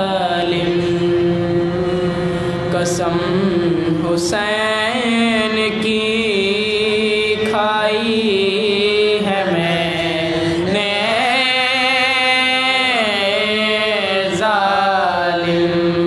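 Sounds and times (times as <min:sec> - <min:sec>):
men chanting a slow lament: 0:00.0 - 0:16.0.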